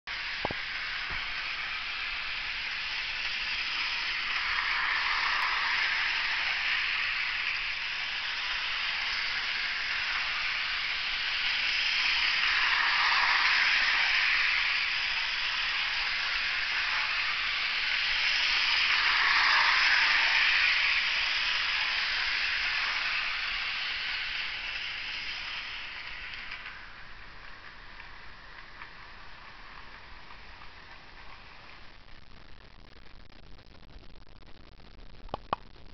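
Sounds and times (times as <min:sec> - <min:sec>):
wheels on rails: 0:00.0 - 0:32.4
model train motor whirring: 0:00.1 - 0:31.9.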